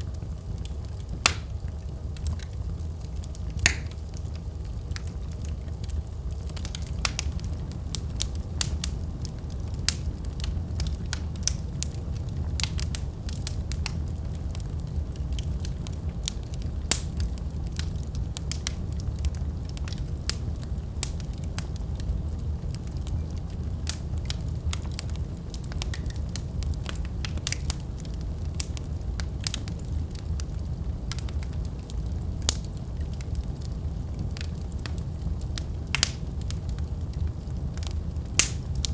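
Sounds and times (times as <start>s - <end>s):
fire crackling in fireplace: 0.0s - 38.9s.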